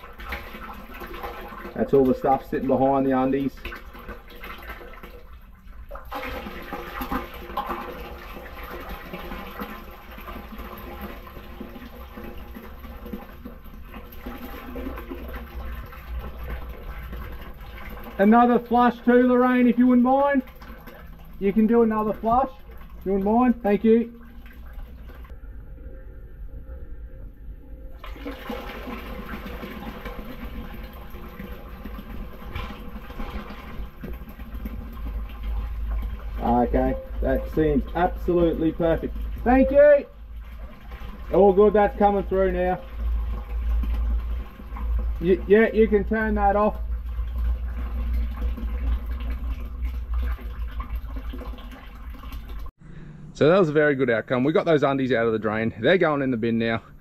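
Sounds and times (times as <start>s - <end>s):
water gushing from pipe: 0.0s - 25.3s, 28.0s - 52.7s
water splashing into channel: 0.0s - 25.3s, 28.0s - 52.7s.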